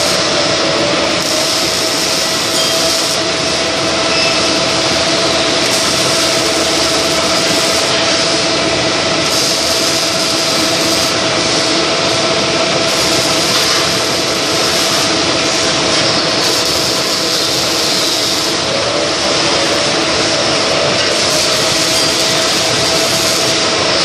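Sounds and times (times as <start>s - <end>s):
milling machine cutting metal: 0.0s - 24.0s.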